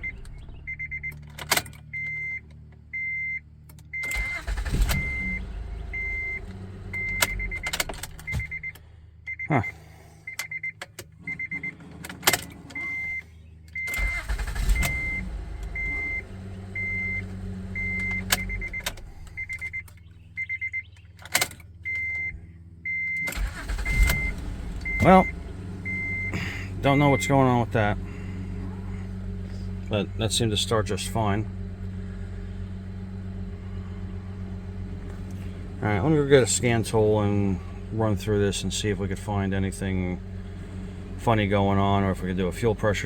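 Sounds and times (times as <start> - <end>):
dashboard warning chime beeping: 0.0 - 11.9, 12.6 - 21.0, 21.8 - 43.0
car engine starting and idling: 0.0 - 43.0.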